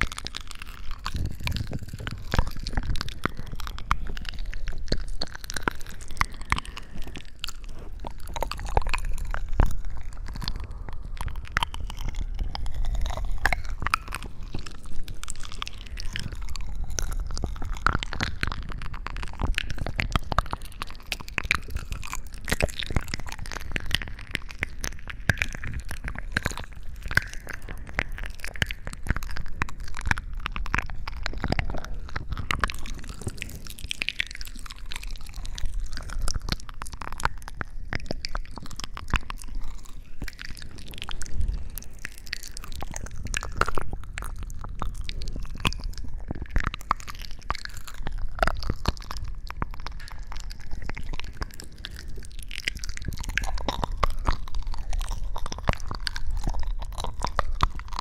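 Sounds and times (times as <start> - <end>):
close crunching and crackling: 0.0 - 58.0.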